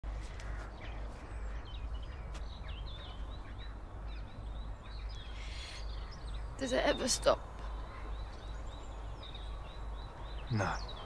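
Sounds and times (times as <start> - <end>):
birds chirping and warbling: 0.1 - 11.0.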